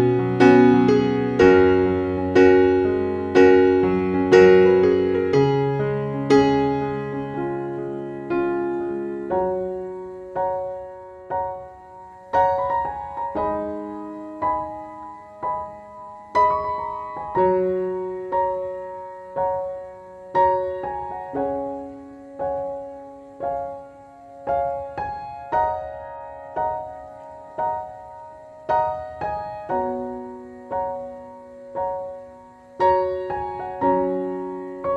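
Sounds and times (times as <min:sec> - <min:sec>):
gentle piano music: 0:00.0 - 0:34.9.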